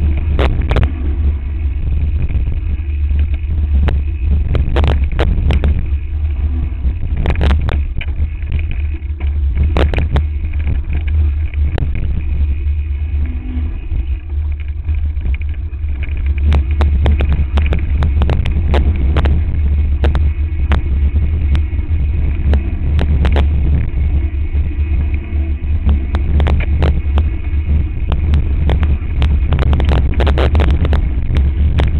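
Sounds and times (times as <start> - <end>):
bike clacking and rattling: 0.0 - 31.9
wind buffeting microphone: 0.0 - 31.9.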